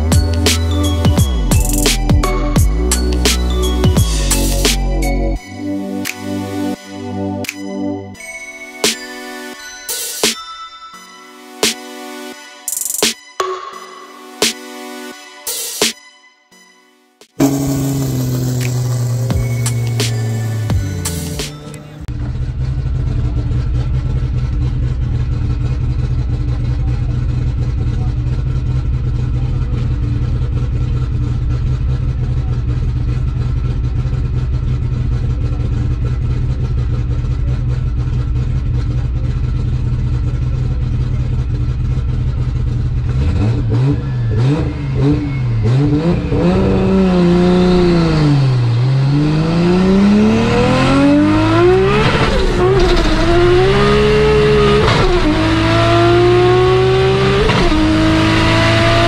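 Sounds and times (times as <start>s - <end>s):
car engine idling and revving: 0.0s - 8.2s, 17.3s - 59.0s.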